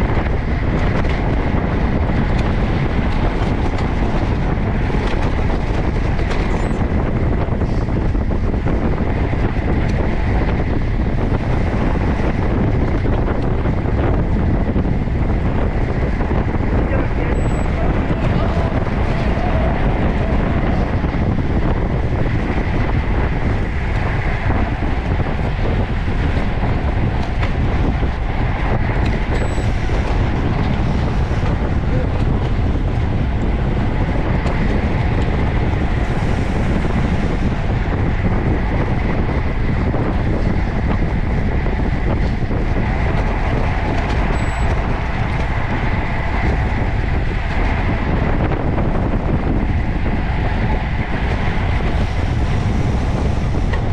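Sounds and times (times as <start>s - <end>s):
bicycle road noise: 0.0s - 53.9s
wind on microphone: 0.0s - 53.9s.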